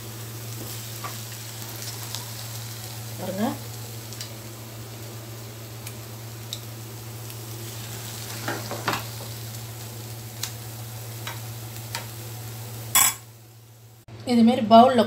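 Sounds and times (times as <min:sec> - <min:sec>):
food sizzling in pan: 0:00.0 - 0:14.1.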